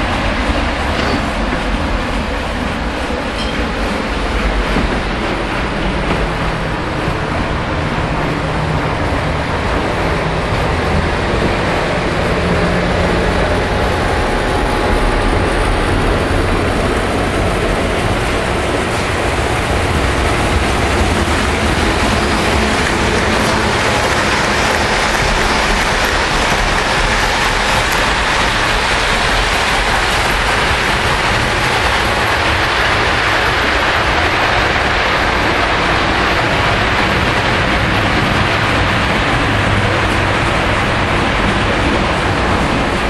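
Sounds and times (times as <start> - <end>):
model trains rumbling on track: 0.0 - 43.0.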